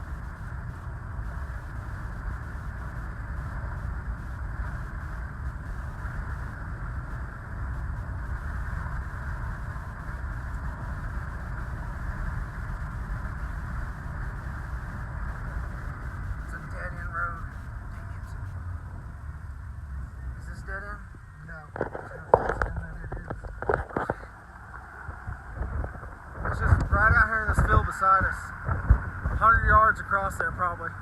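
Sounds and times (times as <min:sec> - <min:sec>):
car road and wind noise: 0:00.0 - 0:31.0.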